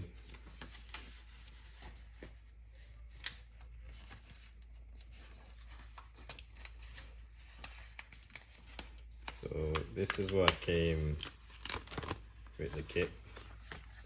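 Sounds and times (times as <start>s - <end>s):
sticker sheet rustling: 0.0s - 14.0s.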